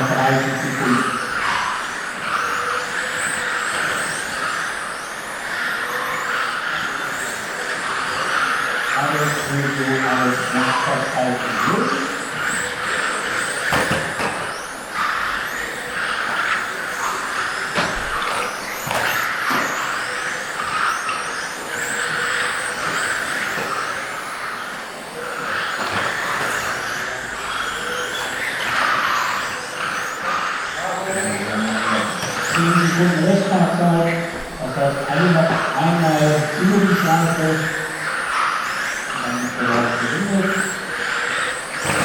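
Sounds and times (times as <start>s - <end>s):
electric motors whining: 0.0s - 42.0s.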